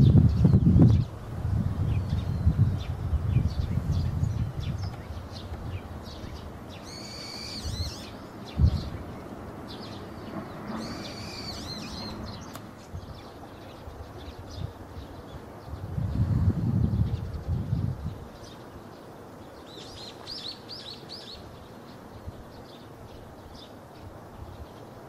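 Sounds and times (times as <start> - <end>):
birds chirping: 1.8 - 25.0
longer pitched bird calls: 1.9 - 15.9, 17.0 - 25.0.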